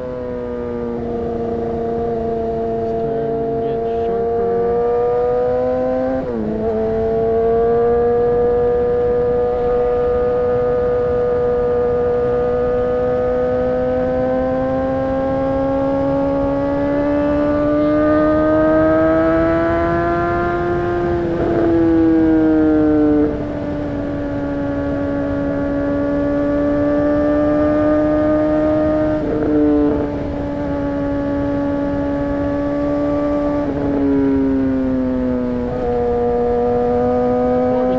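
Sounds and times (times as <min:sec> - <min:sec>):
motorcycle engine at high revs: 0:00.0 - 0:37.9.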